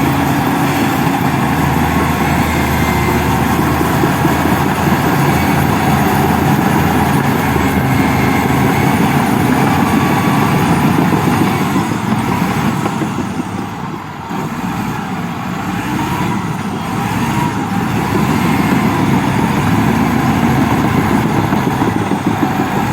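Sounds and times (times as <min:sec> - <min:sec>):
heavy machinery engine running: 0:00.0 - 0:22.9.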